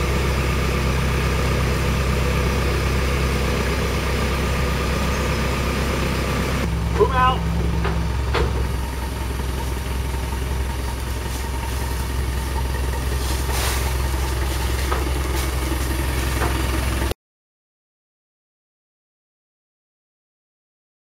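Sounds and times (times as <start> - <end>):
heavy machine engine idling: 0.0 - 17.2.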